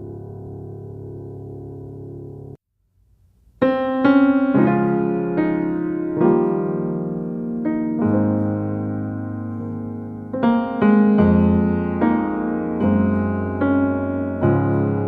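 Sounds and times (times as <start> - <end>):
gentle piano music: 0.0 - 2.6, 3.6 - 15.0.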